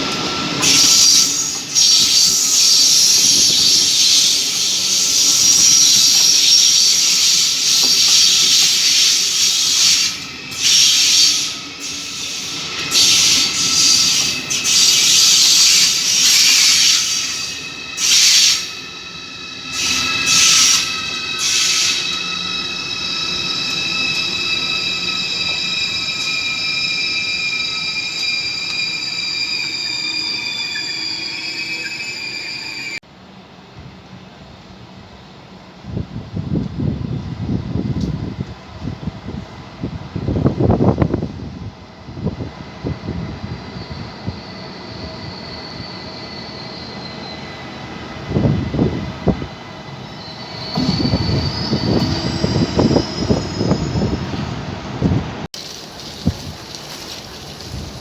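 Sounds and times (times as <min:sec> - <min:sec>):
train brakes squealing: 0:00.0 - 0:33.0, 0:42.1 - 0:55.8
train rolling rumble: 0:00.0 - 0:58.0.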